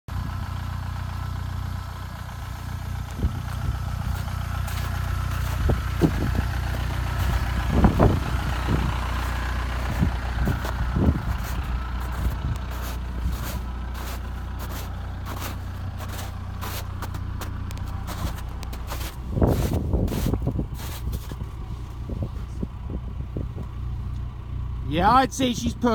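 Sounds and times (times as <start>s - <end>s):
diesel engine running: 0.1s - 25.9s.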